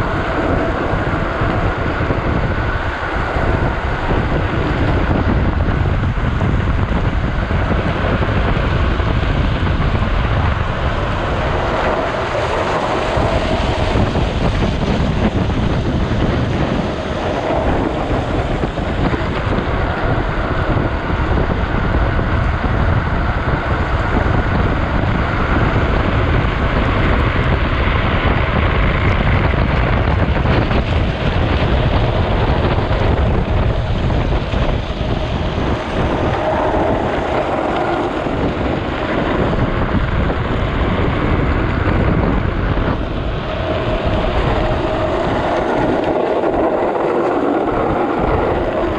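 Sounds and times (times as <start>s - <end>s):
wheels rumbling on wet road: 0.0s - 48.9s
wind rushing over microphone: 0.0s - 48.9s.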